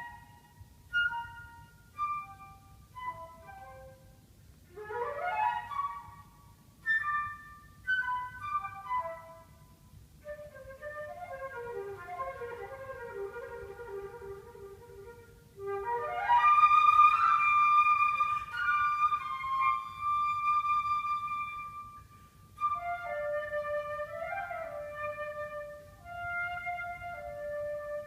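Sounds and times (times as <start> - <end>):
solo flute playing: 0.0 - 28.0.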